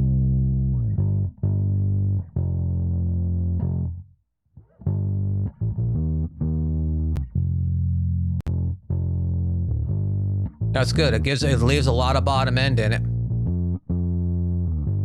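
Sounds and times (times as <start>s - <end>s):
saturated bass guitar notes: 0.0s - 4.0s, 4.7s - 15.0s.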